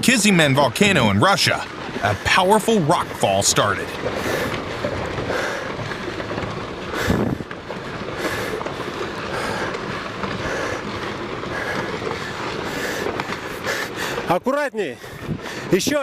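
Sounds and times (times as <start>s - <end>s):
rocks tumbling and clattering: 0.0s - 16.0s.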